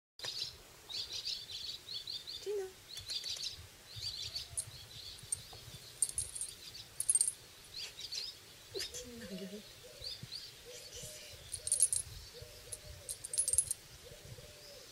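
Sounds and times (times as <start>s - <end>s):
songbirds chirping: 0.2s - 14.9s.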